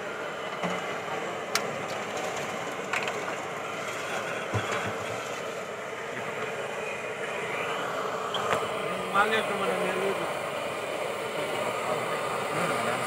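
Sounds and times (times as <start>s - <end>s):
griddle stall background noise: 0.0s - 13.0s.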